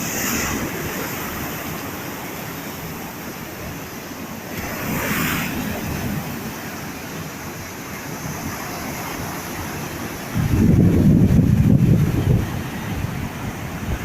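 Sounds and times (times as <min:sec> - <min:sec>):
wave breaking: 0:00.0 - 0:14.0
waves washing on shore: 0:00.0 - 0:14.0.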